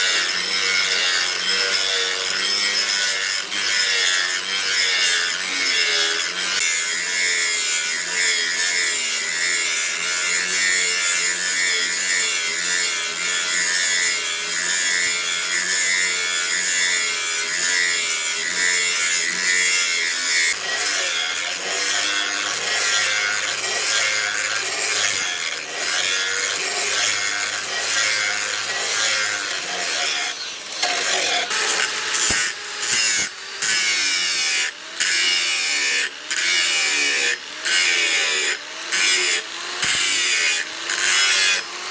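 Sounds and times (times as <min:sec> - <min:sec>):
electric grinder on steel: 0:00.0 - 0:41.9.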